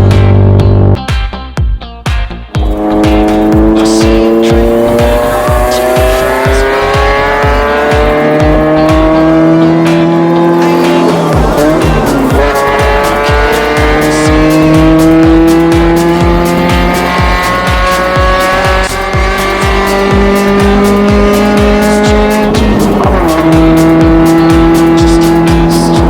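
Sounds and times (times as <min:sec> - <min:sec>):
car exhaust accelerating: 0:00.0 - 0:01.0, 0:02.5 - 0:26.0
music with thumping beat: 0:00.0 - 0:26.0.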